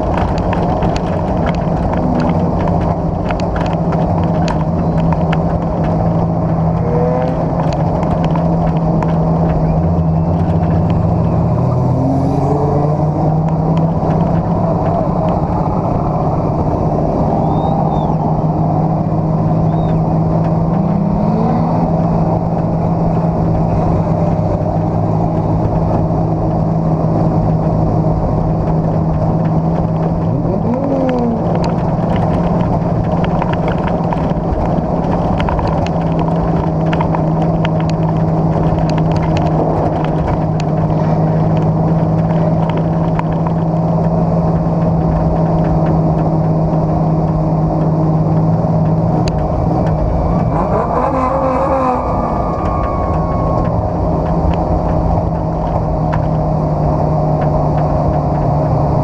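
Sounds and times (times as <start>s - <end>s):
cars passing with rising whine: 0.0s - 59.0s
race car engine running: 0.0s - 59.0s.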